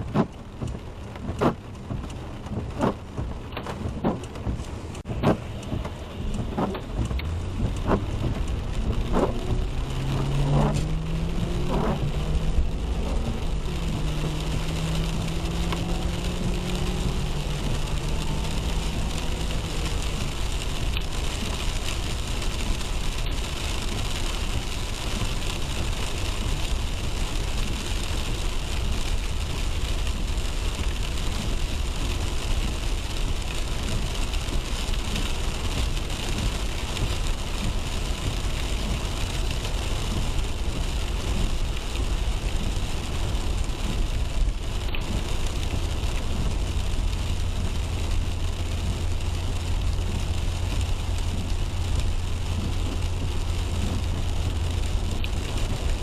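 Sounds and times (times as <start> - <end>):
rain and spray hiss: 0.0 - 56.0
road and tyre noise: 0.0 - 56.0.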